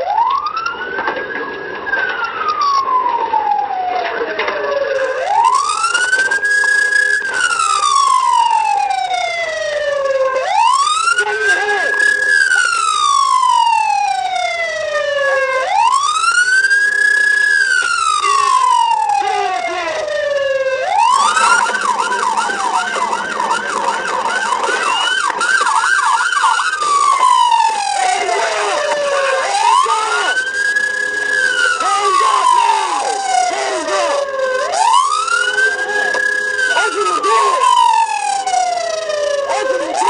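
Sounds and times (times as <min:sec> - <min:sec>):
police siren wailing: 0:00.0 - 0:40.0.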